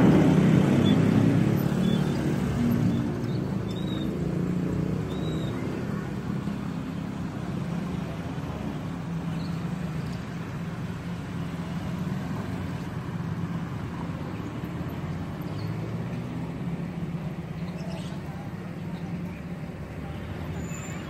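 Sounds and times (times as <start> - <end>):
vehicle engines humming: 0.0 - 21.0.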